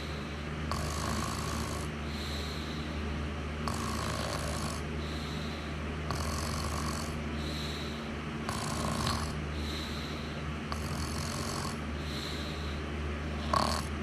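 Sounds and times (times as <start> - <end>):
person snoring: 0.0 - 2.9, 3.6 - 12.8, 13.4 - 14.0
continuous low hum: 0.0 - 14.0.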